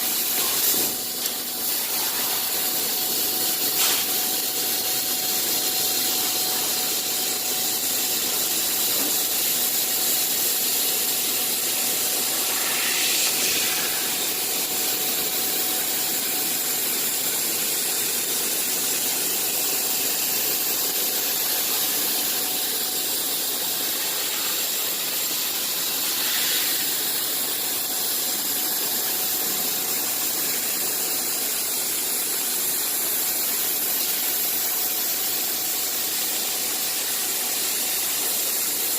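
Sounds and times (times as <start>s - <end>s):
machine hiss and tone: 0.0s - 38.9s.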